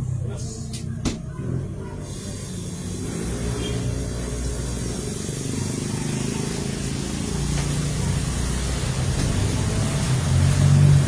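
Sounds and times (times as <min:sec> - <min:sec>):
low mechanical motor rumble: 0:00.0 - 0:11.0.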